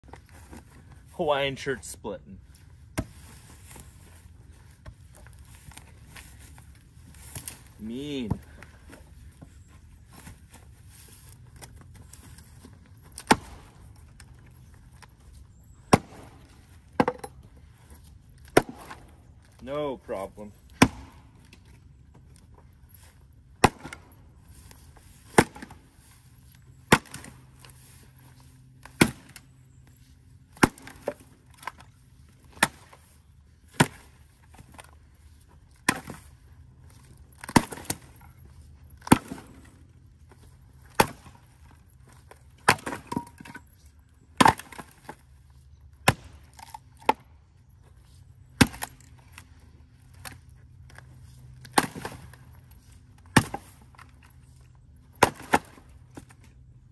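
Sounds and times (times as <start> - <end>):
axe splitting firewood: 2.9 - 4.0, 4.8 - 9.5, 10.1 - 47.4, 48.4 - 56.6.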